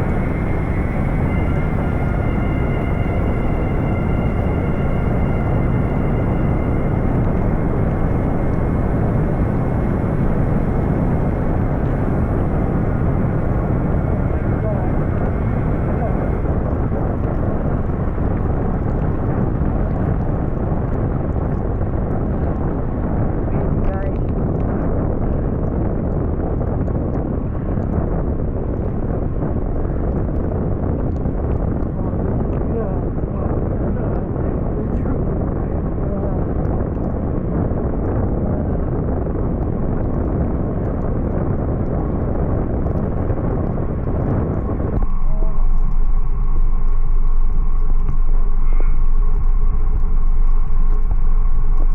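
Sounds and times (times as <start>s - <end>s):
heavy rain: 0.0s - 25.1s, 25.8s - 51.9s
raindrops ticking: 0.0s - 51.9s
wind rumble on microphone: 0.0s - 51.9s.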